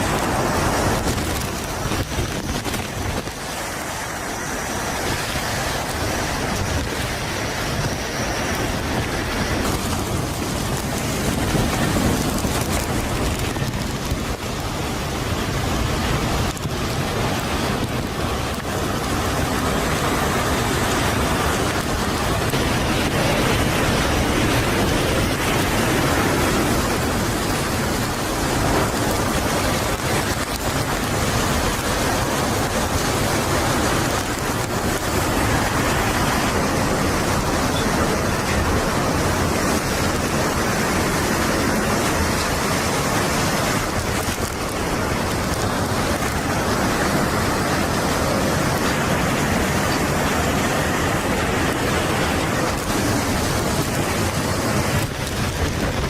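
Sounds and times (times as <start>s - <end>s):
driving rain: 0.0s - 56.0s
hurricane wind: 0.0s - 56.0s.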